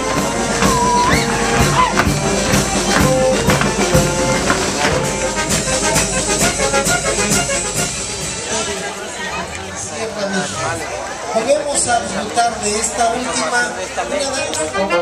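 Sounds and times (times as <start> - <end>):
wind band playing folk dance: 0.0 - 9.9, 12.8 - 15.0.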